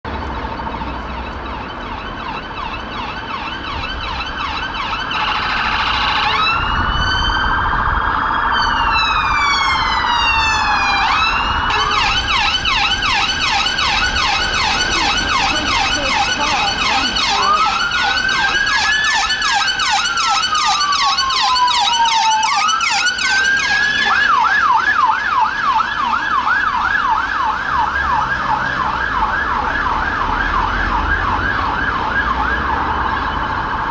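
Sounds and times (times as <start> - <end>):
police sirens yelp and wail: 0.1 - 33.9.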